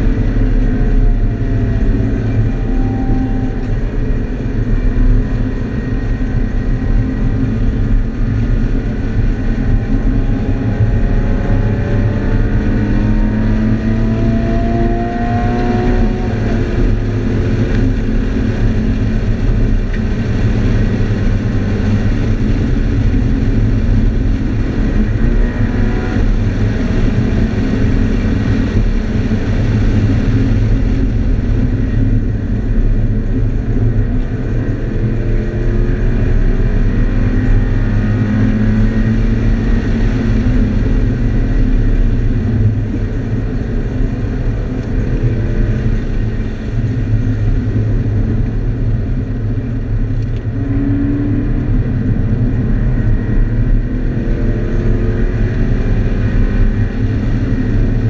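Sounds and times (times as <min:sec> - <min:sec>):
car engine revving: 0:00.0 - 0:58.0
road and tyre noise: 0:00.0 - 0:58.0.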